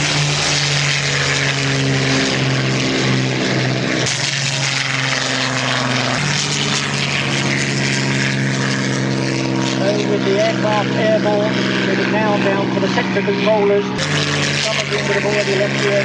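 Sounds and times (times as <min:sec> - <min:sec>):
propeller plane engines droning: 0:00.0 - 0:16.0.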